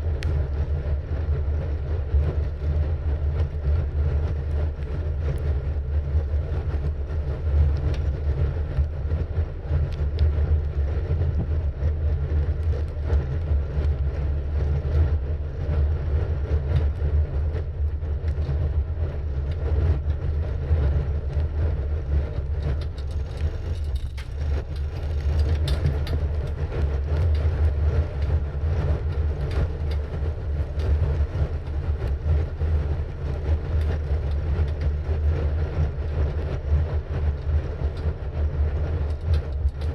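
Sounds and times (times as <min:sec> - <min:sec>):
bicycle rattles and clicks: 0:00.0 - 0:39.9
wind rumble on microphone: 0:00.0 - 0:39.9.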